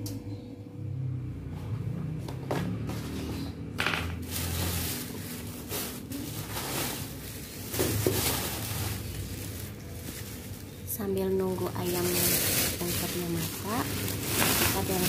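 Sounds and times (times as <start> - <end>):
plastic bags rustling and crinkling: 2.7 - 15.0.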